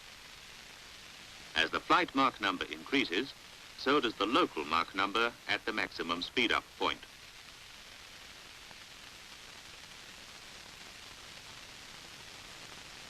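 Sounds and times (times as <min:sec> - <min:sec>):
steady tape hiss: 0:00.0 - 0:13.0.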